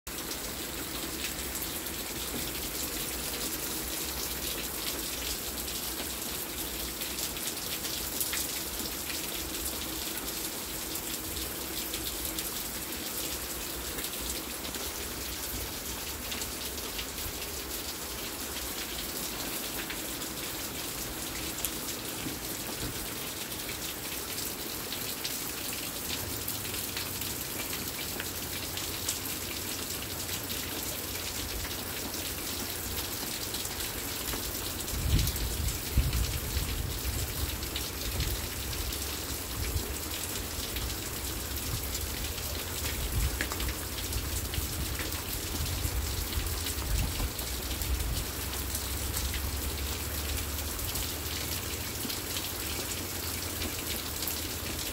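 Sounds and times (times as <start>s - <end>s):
rain on deck and pavement: 0.1s - 54.9s.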